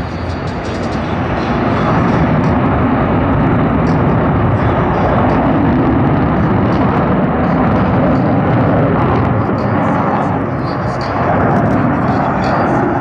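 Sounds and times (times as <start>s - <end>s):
jet roar: 0.0s - 13.0s.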